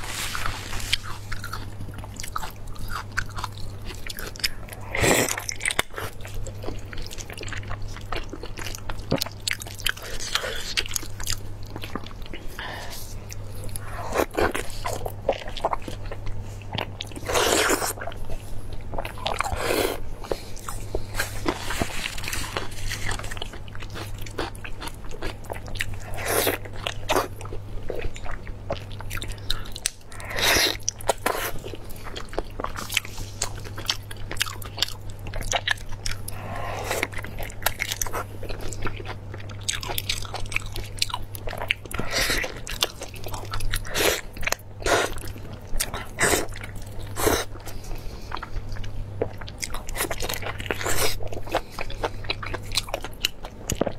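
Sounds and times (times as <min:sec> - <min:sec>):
steady low hum: 0:00.0 - 0:53.9
wet biting and chewing: 0:00.3 - 0:53.9.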